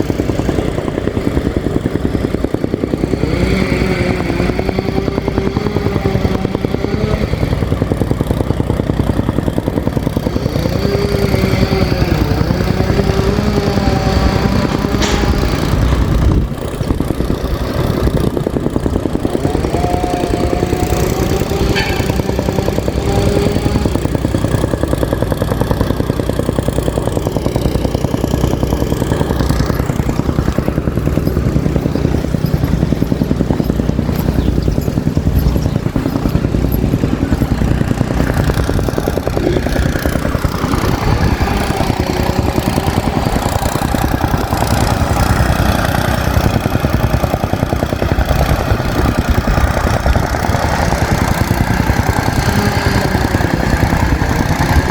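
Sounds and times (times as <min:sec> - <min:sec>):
compactor pounding on earth: 0:00.0 - 0:54.9
soil compactor engine: 0:00.0 - 0:54.9.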